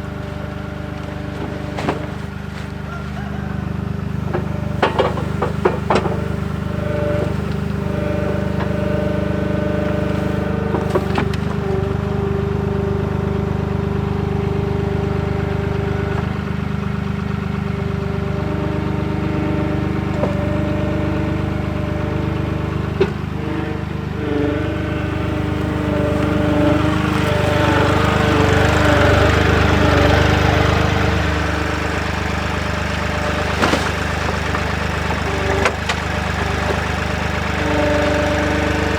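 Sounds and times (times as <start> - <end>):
diesel engine running: 0.0 - 38.9
engine whine: 0.0 - 38.9.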